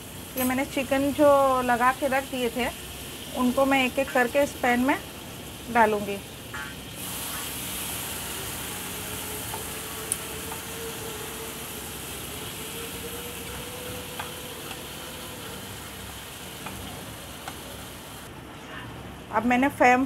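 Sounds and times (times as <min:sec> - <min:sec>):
chicken sizzling in pan: 0:00.0 - 0:18.3.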